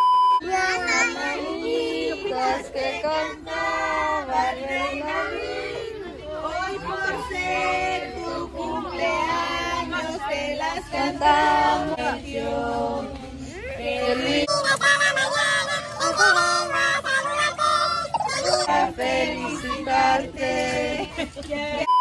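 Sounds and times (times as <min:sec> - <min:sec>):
group of people singing together: 0:00.4 - 0:22.0.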